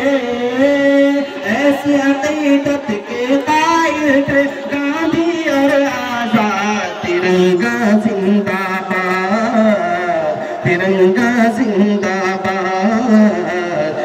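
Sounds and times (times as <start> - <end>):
man singing in chanting style: 0.0 - 14.0.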